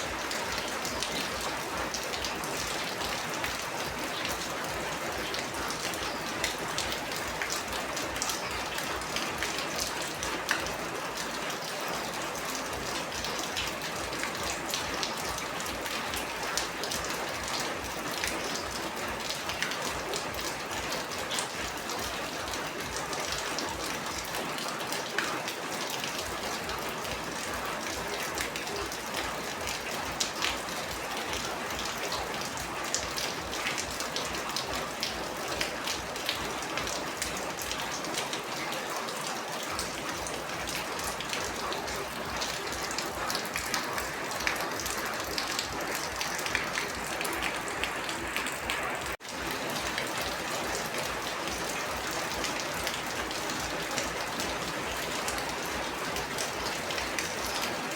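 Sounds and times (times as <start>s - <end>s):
raindrops striking close by: 0.0s - 57.9s
steady rain falling: 0.0s - 57.9s.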